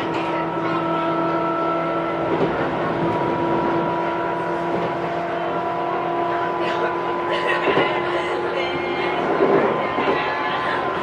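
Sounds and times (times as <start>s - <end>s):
electric train motor hum: 0.0s - 11.0s
wheels rumbling on rail: 0.0s - 11.0s.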